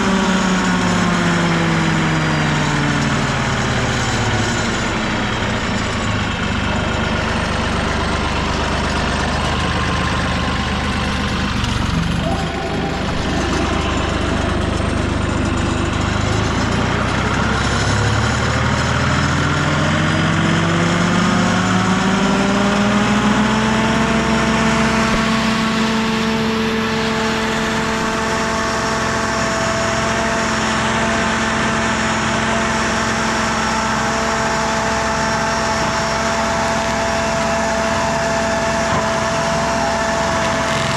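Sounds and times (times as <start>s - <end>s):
stump grinder engine revving: 0.0s - 40.9s.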